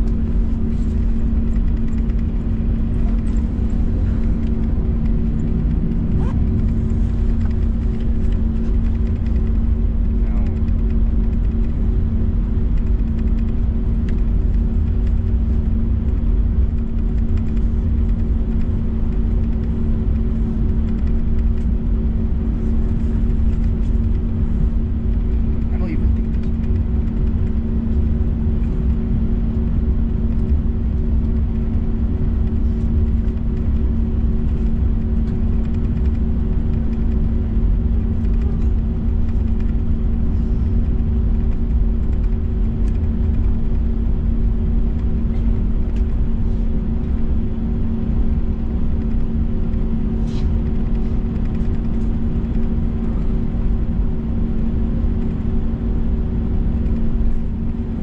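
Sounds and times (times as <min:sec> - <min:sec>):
constant hum: 0:00.0 - 0:58.0
jet engine cabin rumble: 0:00.0 - 0:58.0.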